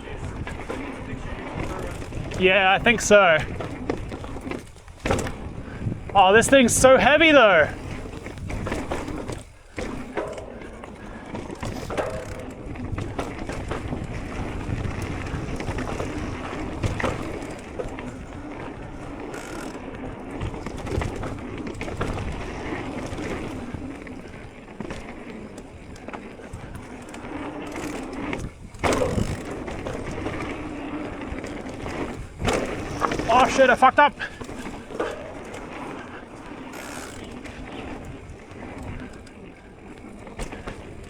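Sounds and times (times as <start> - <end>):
bike rattling over bumps: 0.0 - 41.0
loud bike clatter: 0.0 - 41.0
tyres crunching over dirt: 0.0 - 41.0.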